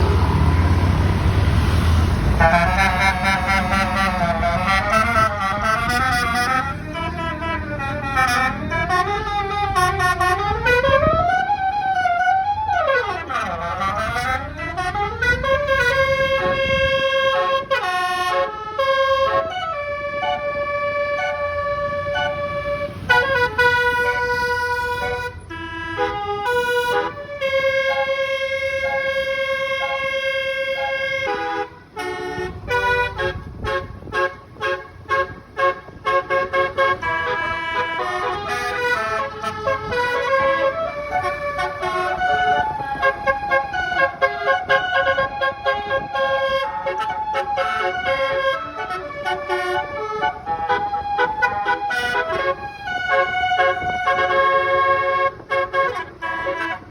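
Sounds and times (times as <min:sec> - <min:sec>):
low engine rumble: 0:00.0 - 0:56.9
bus horn playing a tune: 0:02.2 - 0:56.9.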